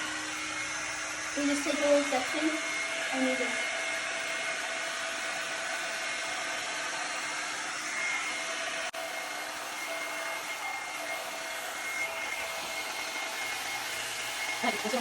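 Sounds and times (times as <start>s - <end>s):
hot-air brush blowing air: 0.0s - 15.0s
thin motor whine: 0.0s - 15.0s.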